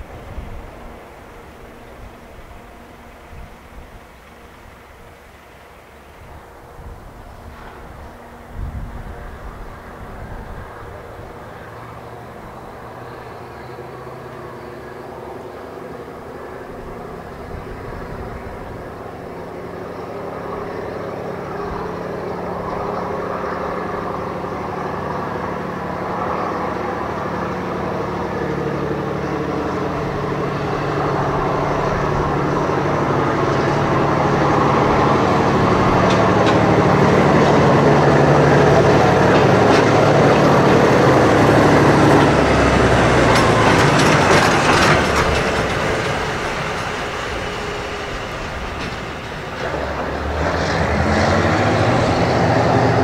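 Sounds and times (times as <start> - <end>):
diesel locomotive engine: 0.0 - 53.0
wheels clicking over rail joints: 0.0 - 53.0.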